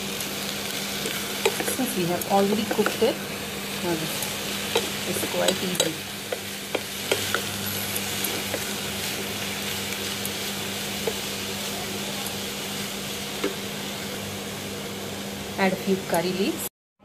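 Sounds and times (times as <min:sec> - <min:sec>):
food sizzling in oil: 0:00.0 - 0:16.7.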